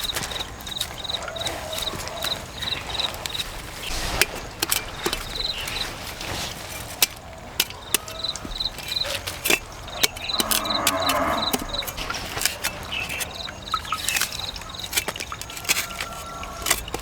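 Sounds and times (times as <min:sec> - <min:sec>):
insects chirping in pulses: 0:00.0 - 0:06.9, 0:07.8 - 0:14.9.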